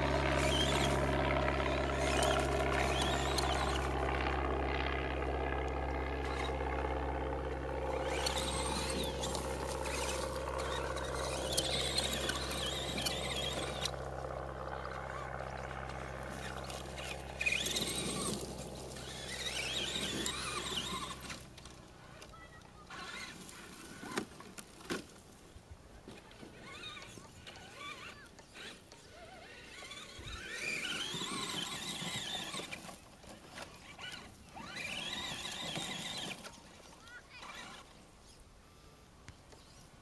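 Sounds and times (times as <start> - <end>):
toy truck electric motor whine: 0.0 - 4.4, 5.5 - 25.1, 26.0 - 39.9.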